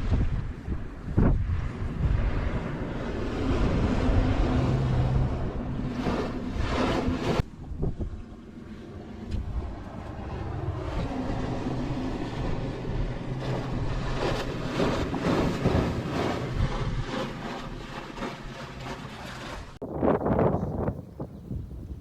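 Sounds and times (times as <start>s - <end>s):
passing engine drone: 0.0s - 19.1s.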